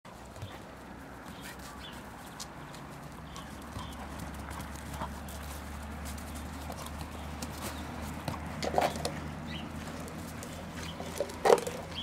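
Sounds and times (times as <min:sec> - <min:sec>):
dogs play-fighting: 0:00.1 - 0:12.0.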